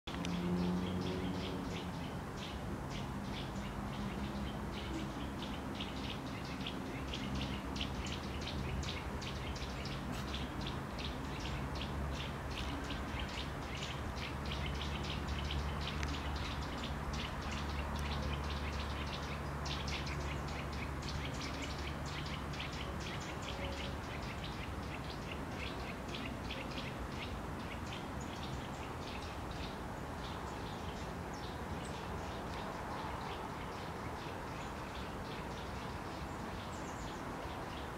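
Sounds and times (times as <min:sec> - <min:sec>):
songbirds chirping: 0:00.1 - 0:37.9.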